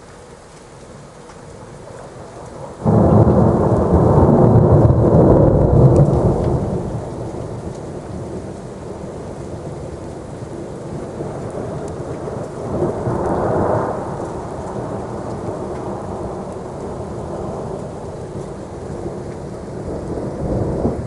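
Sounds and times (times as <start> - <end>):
steady rain: 0.0 - 21.0
thunder rumbling: 0.9 - 21.0.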